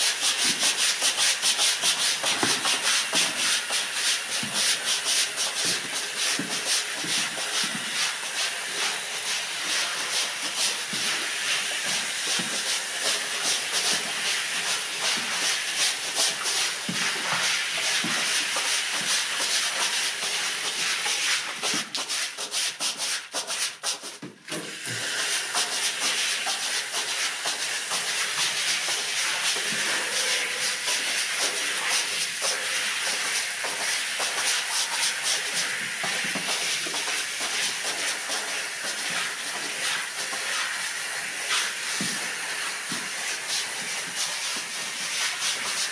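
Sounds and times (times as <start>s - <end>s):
brush scrubbing a wet rug: 0.0s - 45.9s.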